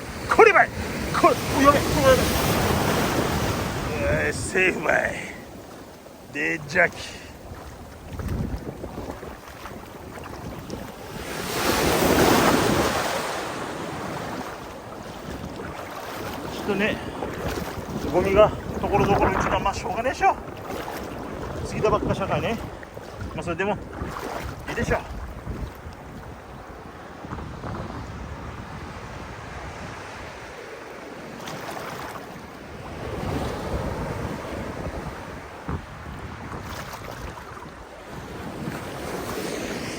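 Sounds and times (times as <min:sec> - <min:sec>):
wave breaking on beach: 0:00.0 - 0:25.7, 0:26.8 - 0:39.9
wind buffeting microphone: 0:00.0 - 0:30.7, 0:32.3 - 0:39.9.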